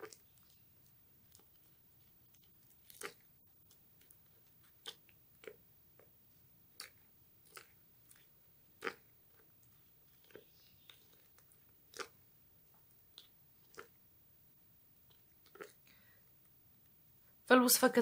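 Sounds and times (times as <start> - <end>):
spoon stirring sticky paste: 0.0 - 16.6.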